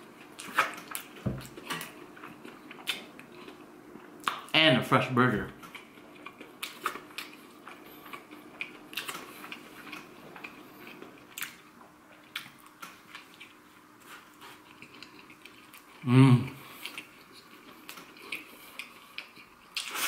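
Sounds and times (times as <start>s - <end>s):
person chewing: 0.0s - 4.5s, 5.6s - 20.0s.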